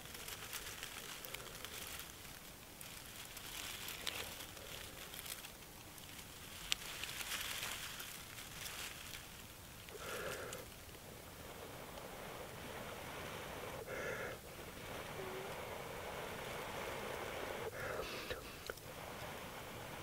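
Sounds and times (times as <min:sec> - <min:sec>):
dry tinder crinkling and crackling: 0:00.0 - 0:20.0.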